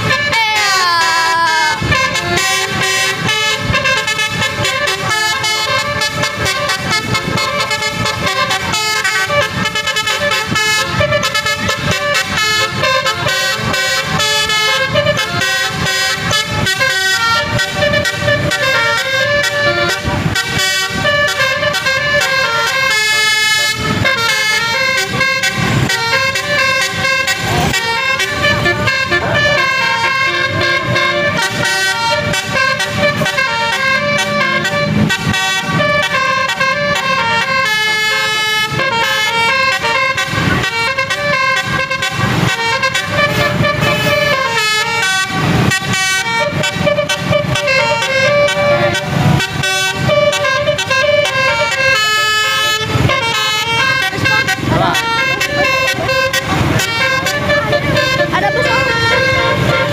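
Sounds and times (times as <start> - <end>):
bus horn playing a melody: 0.0 - 59.9.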